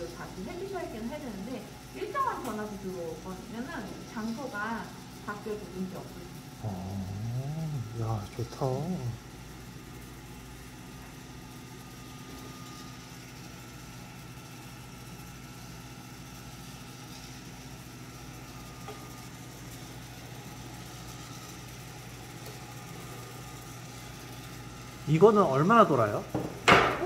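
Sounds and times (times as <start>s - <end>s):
coffee roaster cooling fan hum: 0.0s - 27.0s.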